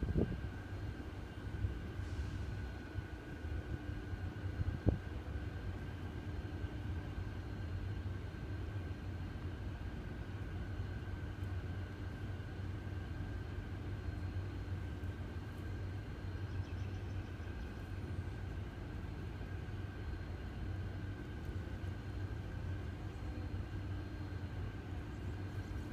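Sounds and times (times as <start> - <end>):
constant hum: 0.0 - 25.9
low mechanical rumble: 0.0 - 25.9.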